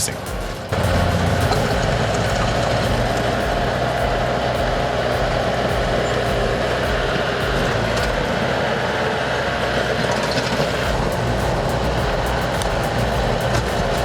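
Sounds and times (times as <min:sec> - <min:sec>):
heavy machine diesel engine: 0:00.0 - 0:14.0.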